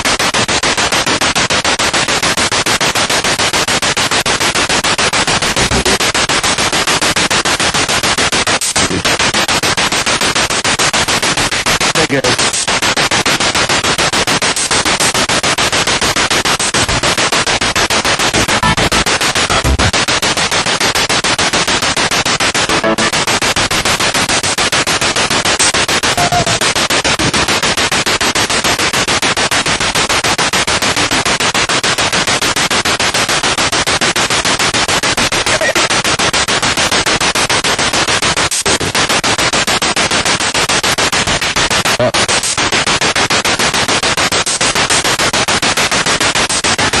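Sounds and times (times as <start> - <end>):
choppy pulsing radio static: 0.0 - 47.0
faint snatches of broadcast: 0.0 - 47.0.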